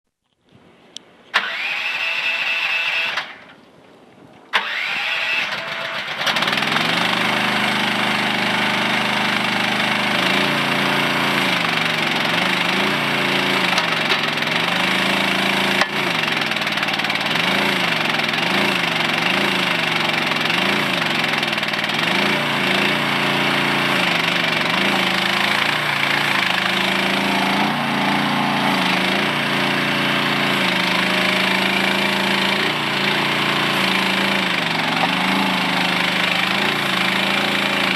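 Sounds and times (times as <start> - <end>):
excavator engine running: 4.6 - 37.9.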